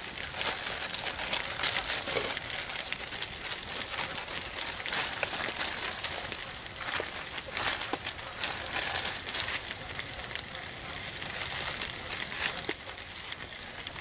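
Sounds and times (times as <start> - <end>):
campfire crackling: 0.0 - 14.0
pork frying in a skillet: 0.0 - 14.0.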